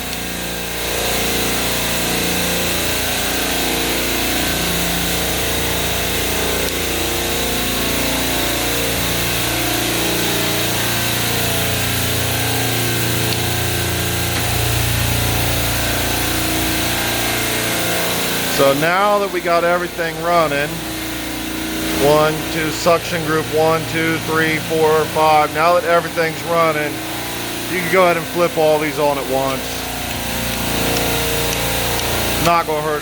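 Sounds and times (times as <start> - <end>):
compressors humming and hissing: 0.0 - 33.0.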